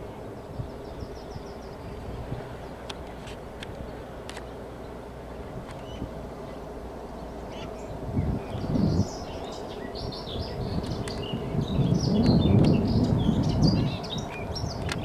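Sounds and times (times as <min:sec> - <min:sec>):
small songbirds chirping: 0:00.0 - 0:15.0
steady low background noise: 0:00.0 - 0:15.0.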